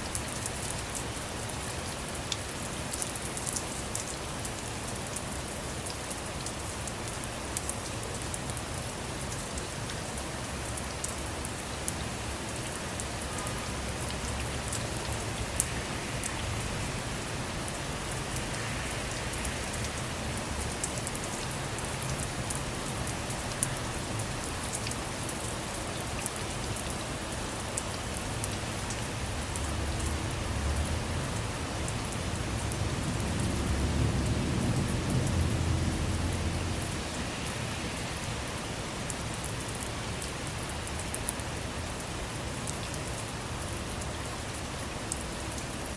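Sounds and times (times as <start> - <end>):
rain pattering on a car roof: 0.0 - 45.9.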